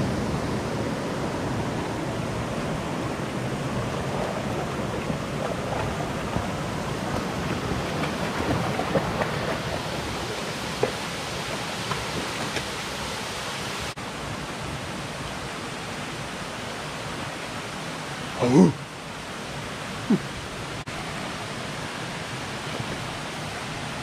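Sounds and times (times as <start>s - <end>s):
creek rushing over rocks: 0.0s - 24.0s.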